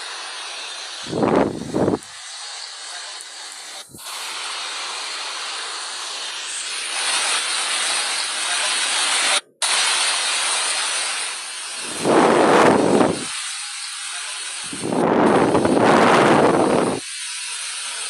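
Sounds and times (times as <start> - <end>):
hissing rush of water: 0.0 - 18.0.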